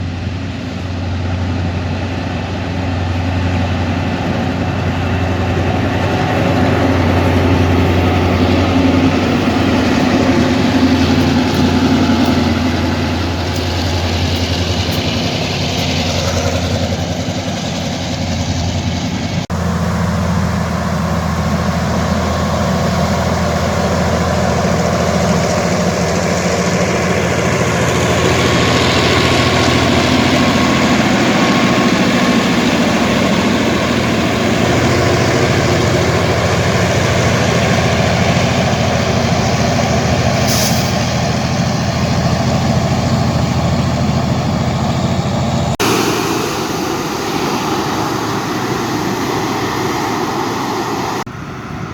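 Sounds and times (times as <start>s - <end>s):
diesel locomotive engine drone: 0.0s - 51.9s.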